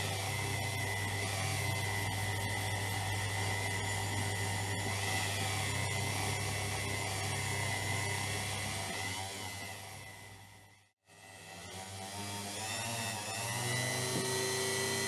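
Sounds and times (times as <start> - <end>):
electric power tool whining: 0.0 - 15.0.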